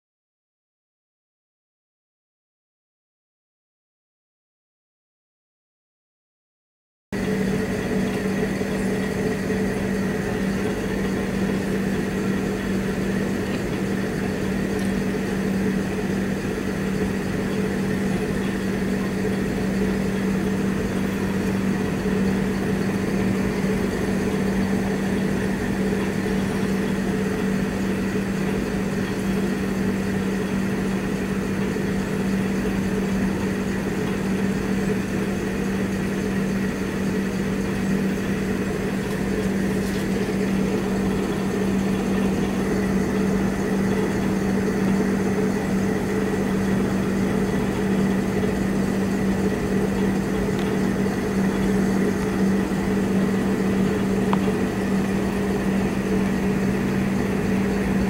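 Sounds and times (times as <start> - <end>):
motor humming: 7.2 - 58.0.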